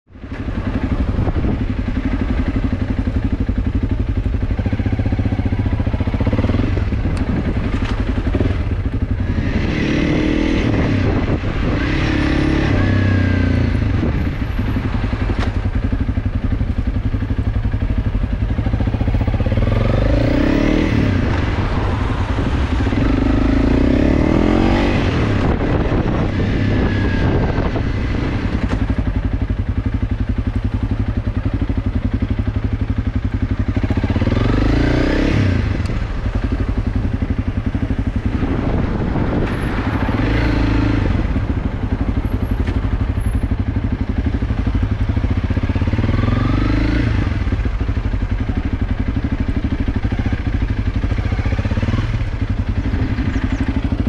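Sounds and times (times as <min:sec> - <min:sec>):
motorcycle engine rumbling: 0:00.1 - 0:54.0.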